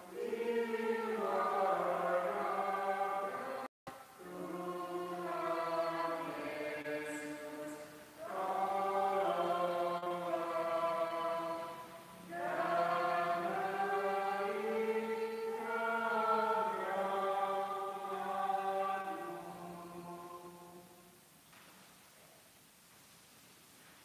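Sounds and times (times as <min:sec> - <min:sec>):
voices singing a hymn: 0:00.0 - 0:21.2.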